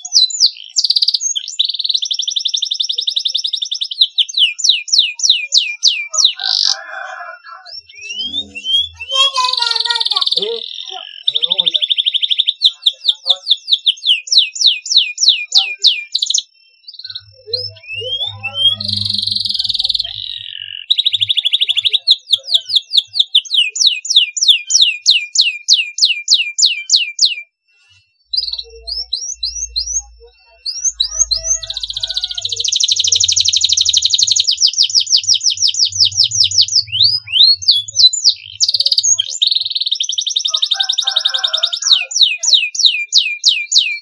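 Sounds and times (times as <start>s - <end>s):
canary singing: 0.0s - 44.0s.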